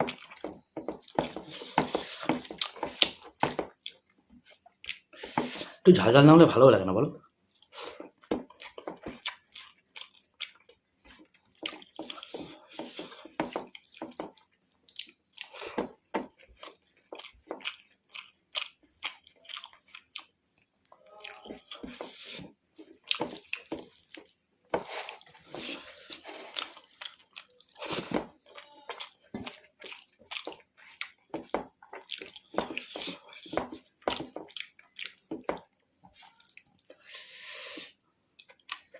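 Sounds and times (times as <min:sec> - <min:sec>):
wet chewing and smacking: 0:00.0 - 0:05.8, 0:07.2 - 0:37.1, 0:37.7 - 0:38.9.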